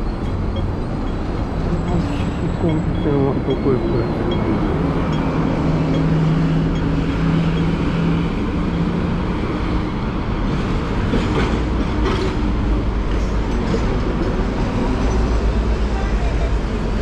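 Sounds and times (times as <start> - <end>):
tram wheels clicking: 0.0 - 15.9
bus engines idling: 0.0 - 17.0
street traffic: 0.0 - 17.0
tram running on rails: 0.0 - 17.0.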